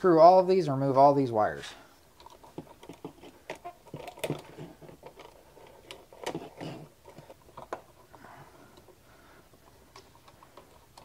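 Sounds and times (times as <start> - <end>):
screwdriver clicking and scraping: 2.2 - 11.0.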